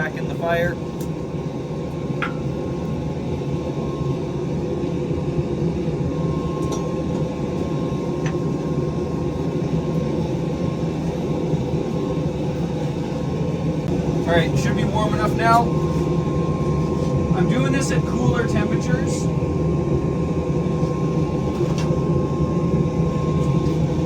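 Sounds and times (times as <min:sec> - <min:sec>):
forge fire rushing: 0:02.2 - 0:24.0.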